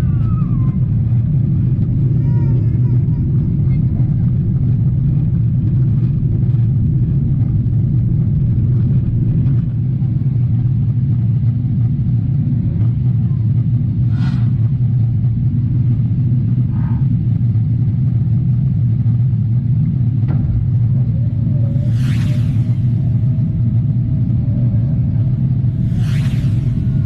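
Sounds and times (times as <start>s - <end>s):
airplane cabin engine rumble: 0.0s - 27.0s.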